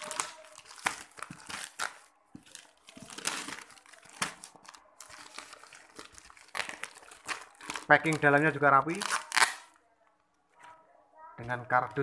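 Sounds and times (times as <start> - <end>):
plastic mailer bag crinkling: 0.0 - 9.8.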